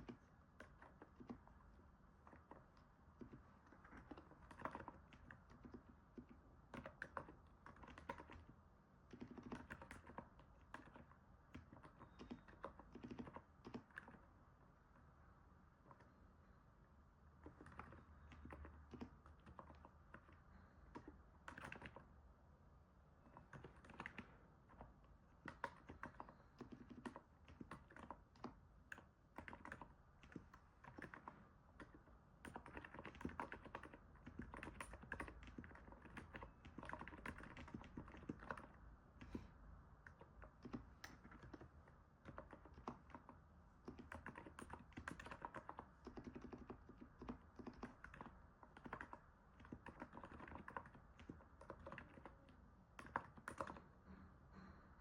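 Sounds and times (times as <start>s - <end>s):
soft keyboard typing: 0.0s - 55.0s.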